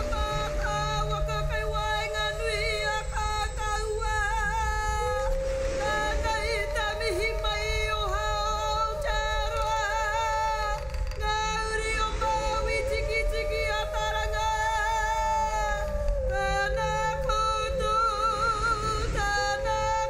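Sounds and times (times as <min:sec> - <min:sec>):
women singing with vibrato: 0:00.0 - 0:20.0.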